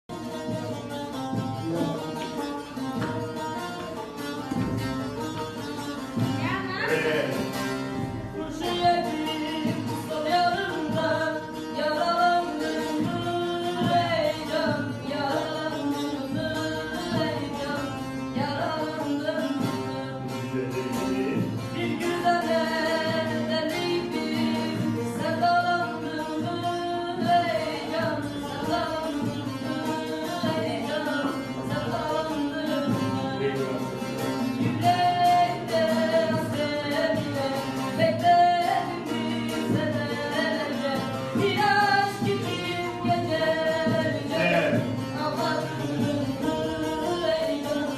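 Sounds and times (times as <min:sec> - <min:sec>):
instrumental accompaniment: 0:00.1 - 0:47.9.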